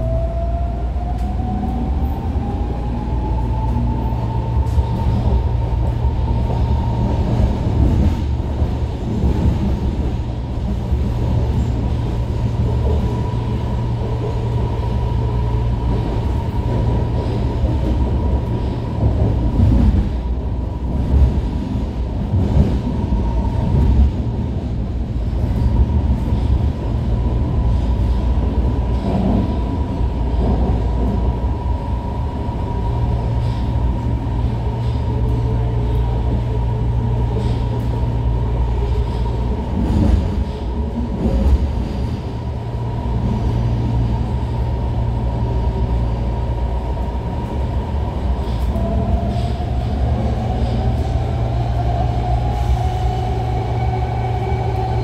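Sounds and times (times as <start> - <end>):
high train whine: 0.0 - 55.0
wheels rumbling on rail: 0.0 - 55.0.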